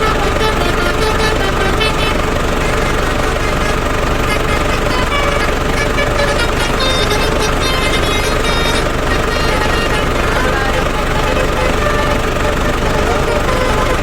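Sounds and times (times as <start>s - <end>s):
low engine rumble: 0.0s - 14.0s
multi-tone truck horn tune: 0.0s - 14.0s.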